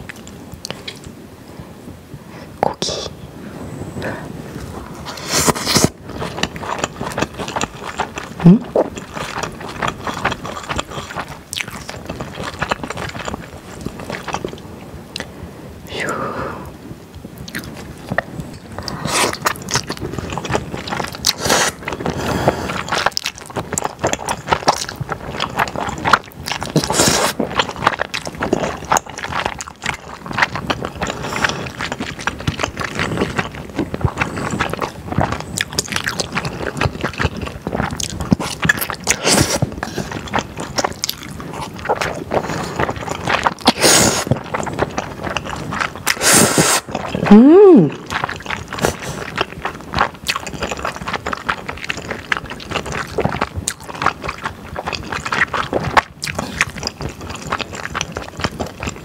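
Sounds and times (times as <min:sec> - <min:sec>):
chewing and slurping noodles: 0:04.5 - 0:15.3, 0:17.3 - 0:59.0.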